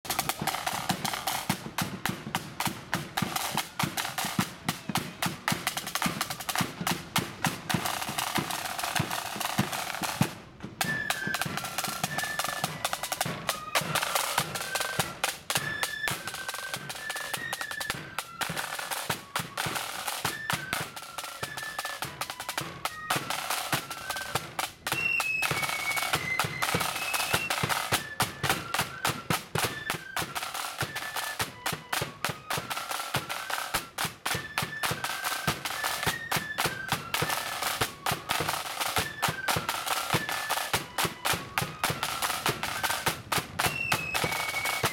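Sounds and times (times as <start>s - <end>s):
flutes playing marching tune: 0.0s - 44.9s
snare drum rolls: 0.0s - 44.9s.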